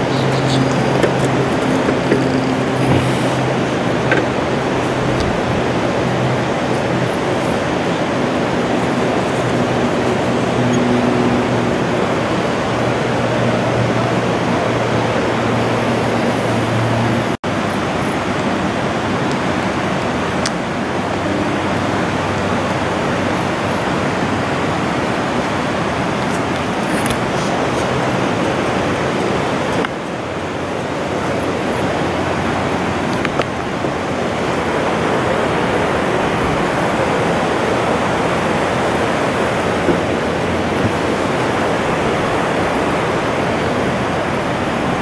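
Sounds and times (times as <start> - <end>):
loud rushing noise: 0.0 - 45.0.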